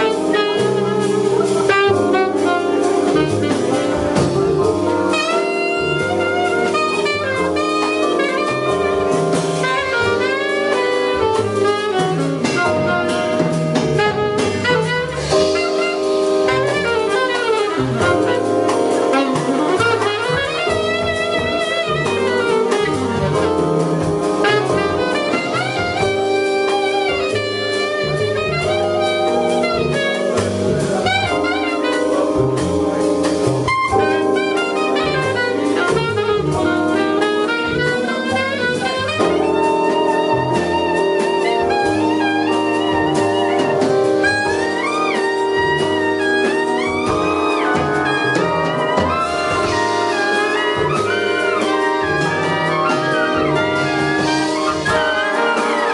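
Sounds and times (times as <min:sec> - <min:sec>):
brass chords: 0:00.0 - 0:55.9
drum kit: 0:00.0 - 0:55.9
saxophone solo: 0:00.0 - 0:55.9.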